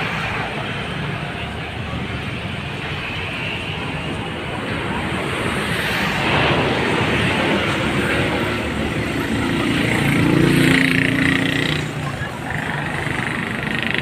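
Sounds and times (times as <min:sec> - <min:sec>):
crowd voices: 0:00.0 - 0:14.0
road traffic: 0:00.0 - 0:14.0.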